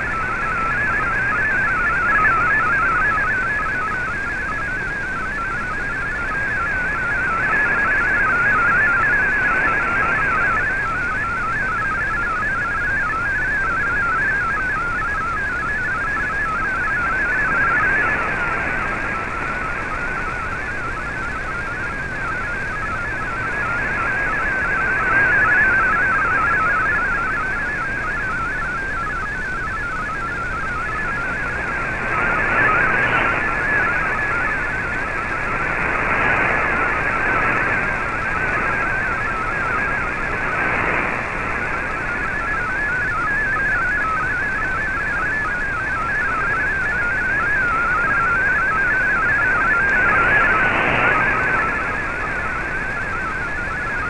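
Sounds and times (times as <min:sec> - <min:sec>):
shortwave radio static: 0:00.0 - 0:54.0.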